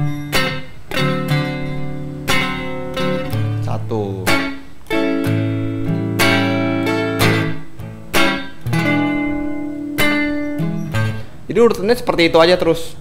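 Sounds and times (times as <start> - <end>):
strummed blues guitar chords: 0.0 - 11.5.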